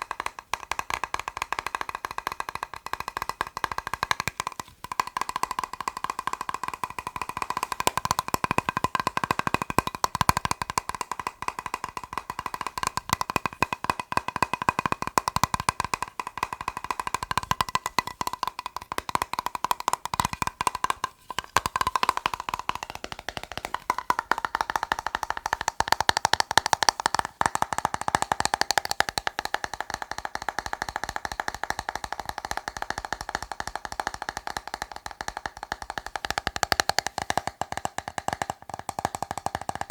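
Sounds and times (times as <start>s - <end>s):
fast tapping on plastic box: 0.0s - 39.9s.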